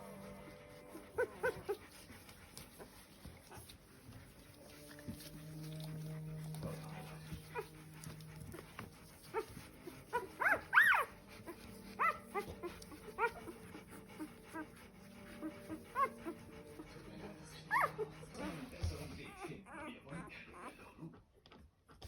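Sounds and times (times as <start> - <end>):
puppies squeaking and whimpering: 0.0 - 21.0.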